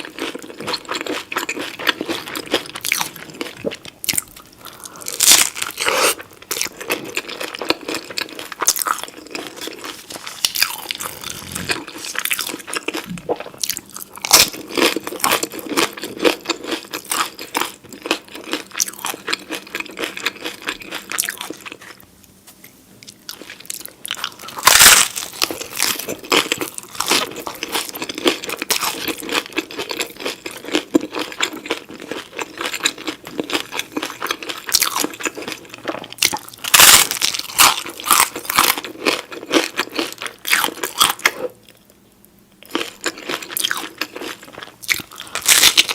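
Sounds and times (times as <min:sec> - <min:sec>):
person chewing crunchy food: 0:00.0 - 0:22.1, 0:23.0 - 0:41.9, 0:42.6 - 0:45.9.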